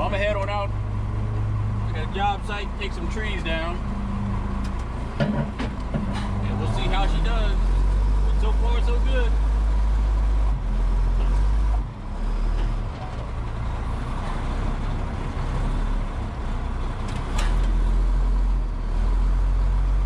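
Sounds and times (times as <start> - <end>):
diesel truck engine drone: 0.0 - 20.0.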